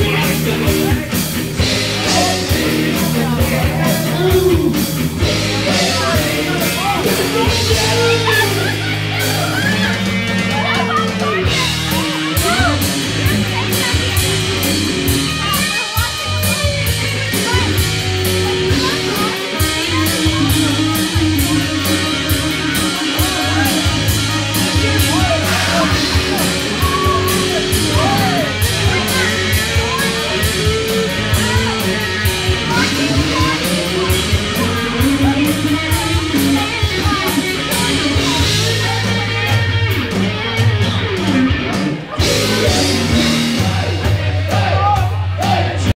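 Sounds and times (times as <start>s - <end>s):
cymbals keeping a beat: 0.0s - 45.9s
live rock band playing: 0.0s - 45.9s.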